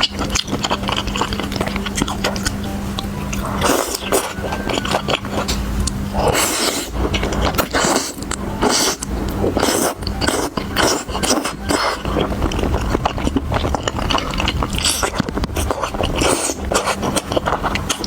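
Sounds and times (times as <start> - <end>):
food being bitten and chewed: 0.0 - 18.0.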